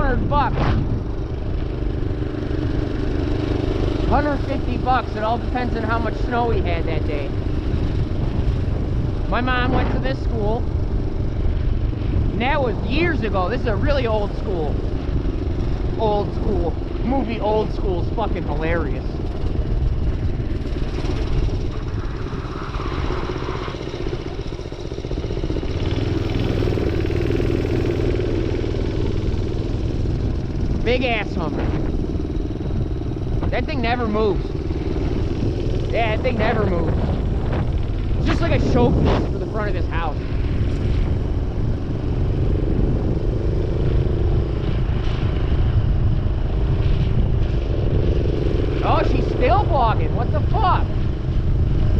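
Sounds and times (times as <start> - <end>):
minibike engine running: 0.0 - 51.9
wind buffeting microphone: 0.0 - 51.9.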